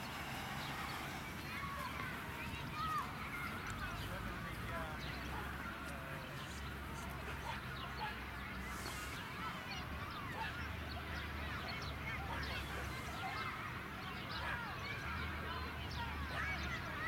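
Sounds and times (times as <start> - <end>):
distant children shouting and cheering: 0.0 - 4.3, 5.0 - 17.0.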